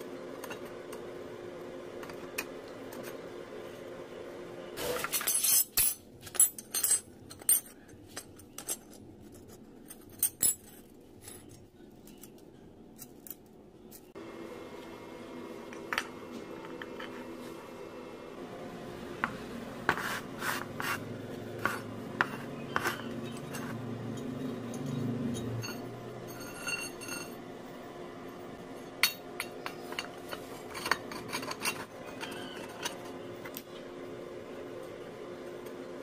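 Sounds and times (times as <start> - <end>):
steady low hum: 0.0 - 4.8, 5.8 - 36.0.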